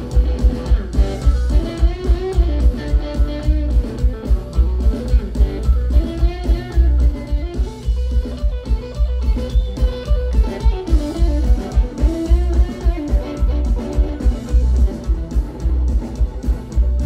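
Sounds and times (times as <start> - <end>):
electric guitar melody: 0.0 - 17.0
live band playing: 0.0 - 17.0.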